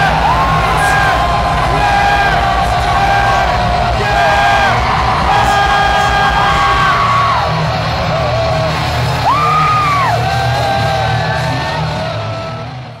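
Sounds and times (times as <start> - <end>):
crowd singing and yelling: 0.0 - 13.0
heavy metal band playing: 0.0 - 13.0.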